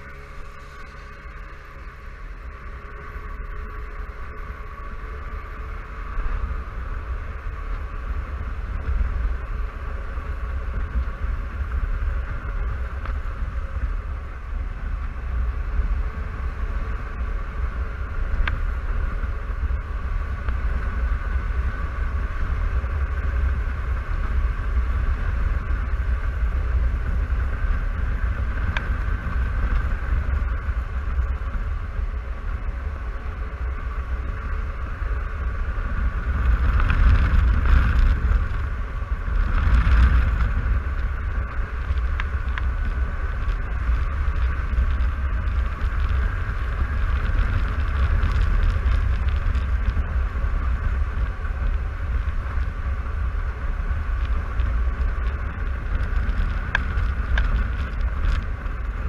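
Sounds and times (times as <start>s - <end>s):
scooter engine running: 0.0s - 59.0s
wind rumble over microphone: 0.0s - 59.0s.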